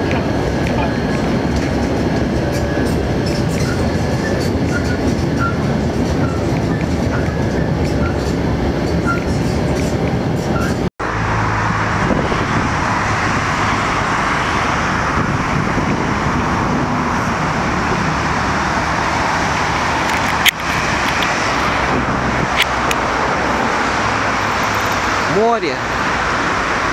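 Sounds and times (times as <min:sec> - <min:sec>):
passing cars: 0:00.0 - 0:26.9.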